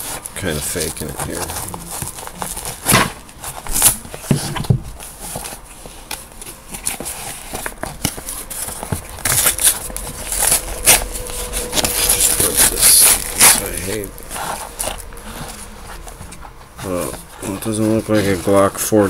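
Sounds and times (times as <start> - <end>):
paper envelope rustling: 0.0 - 19.0.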